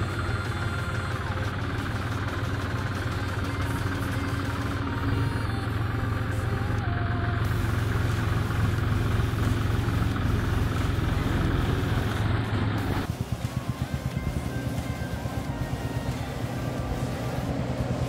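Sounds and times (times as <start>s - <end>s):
combine harvester engine droning: 0.0s - 18.0s.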